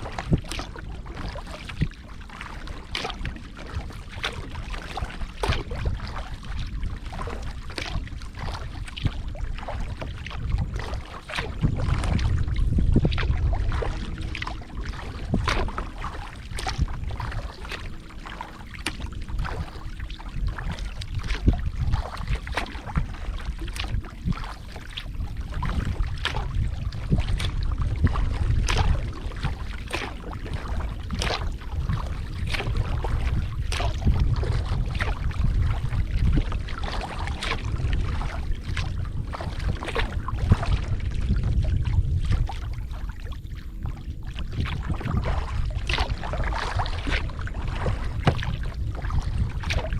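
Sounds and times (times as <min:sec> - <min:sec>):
water splashing and dripping: 0:00.0 - 0:49.9
wind rumble on microphone: 0:00.0 - 0:49.9.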